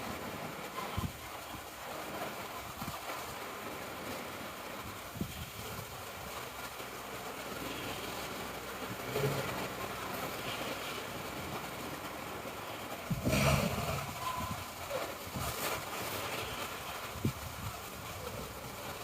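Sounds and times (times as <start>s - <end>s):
steady noisy background: 0.0s - 19.0s.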